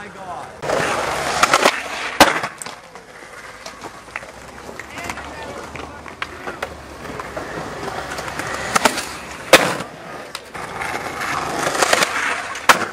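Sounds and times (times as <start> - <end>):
skateboard wheels rolling on concrete: 0.0 - 12.9
skateboard clacking on ground: 0.4 - 12.9.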